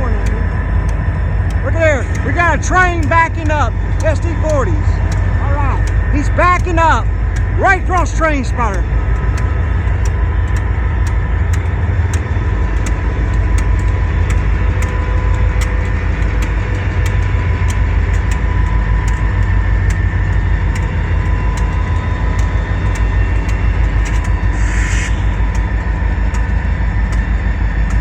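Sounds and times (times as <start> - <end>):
faint steady whine: 0.0 - 28.0
locomotive engines rumbling: 0.0 - 28.0.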